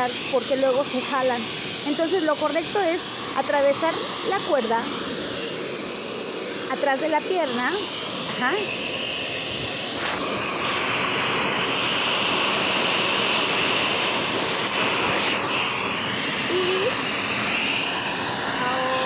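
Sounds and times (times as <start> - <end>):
blow dryer whining: 0.0 - 19.0.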